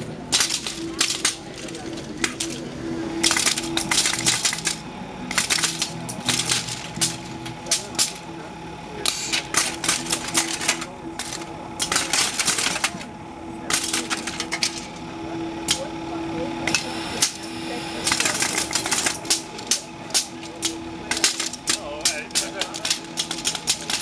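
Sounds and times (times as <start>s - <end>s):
pneumatic strikers clattering on metal: 0.0s - 8.2s, 9.0s - 15.0s, 16.6s - 24.0s.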